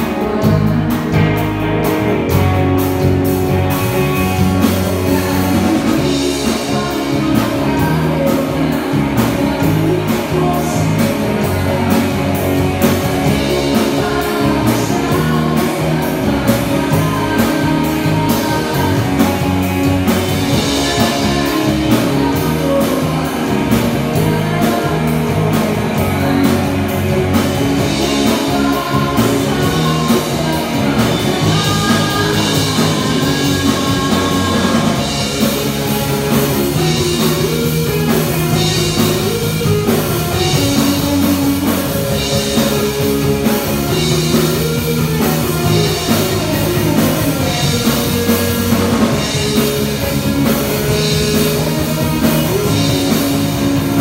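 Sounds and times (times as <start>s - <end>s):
person singing lead vocal: 0.0s - 2.5s, 3.5s - 54.0s
drum kit: 0.0s - 54.0s
electric bass: 0.0s - 54.0s
electric guitar: 0.0s - 54.0s.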